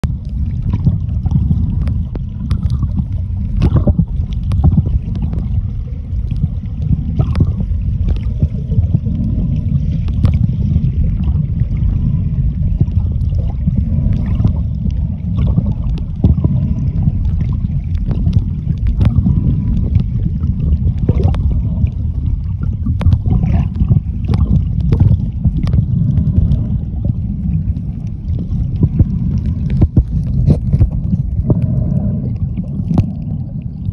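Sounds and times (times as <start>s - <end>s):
muffled underwater rumble: 0.0s - 33.9s
sharp clicks and crackles: 0.0s - 33.9s.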